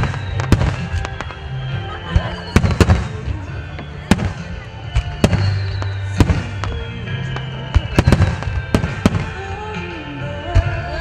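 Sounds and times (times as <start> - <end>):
fireworks bangs: 0.0 - 9.5
music playing: 0.0 - 11.0.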